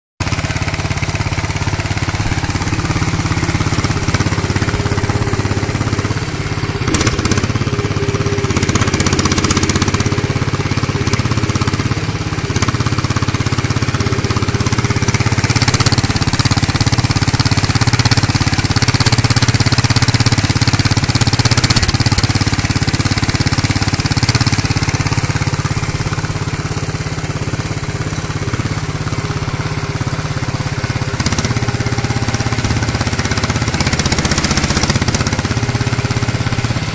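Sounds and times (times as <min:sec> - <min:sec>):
hydraulic pump mechanical drone: 0:00.2 - 0:36.9.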